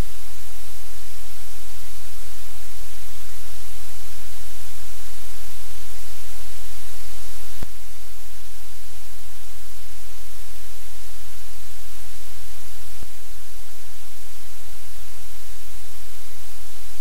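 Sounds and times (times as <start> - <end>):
static-like hiss: 0.0 - 17.0.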